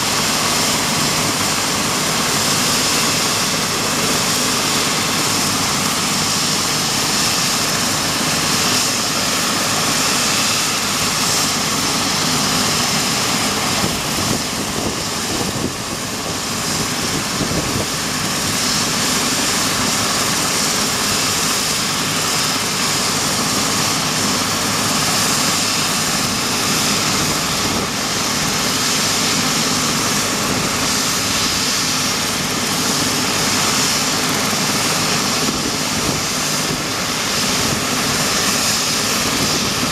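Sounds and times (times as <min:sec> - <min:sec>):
helicopter rotor chop: 0:00.0 - 0:39.9
helicopter turbine whine: 0:00.0 - 0:39.9.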